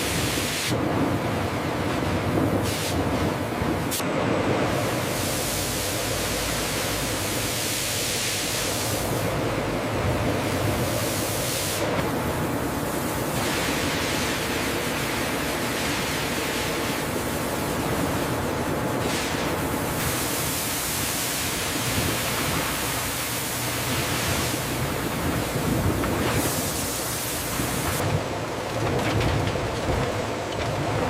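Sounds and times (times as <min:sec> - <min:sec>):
food processing machinery rushing: 0:00.0 - 0:31.0.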